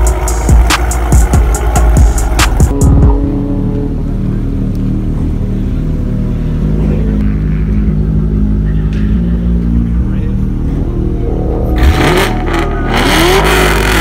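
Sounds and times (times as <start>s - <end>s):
car exhaust at low revs: 0.0s - 14.0s.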